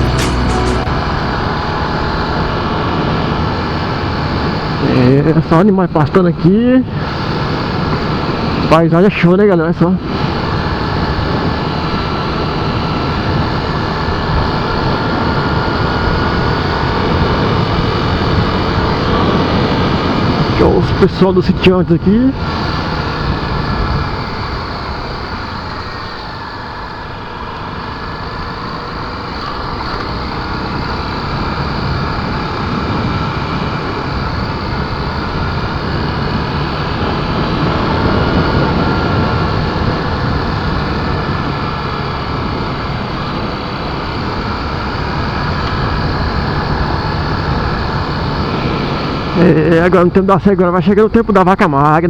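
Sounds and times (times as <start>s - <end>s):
motorcycle engine running: 0.0s - 5.7s, 10.0s - 49.8s.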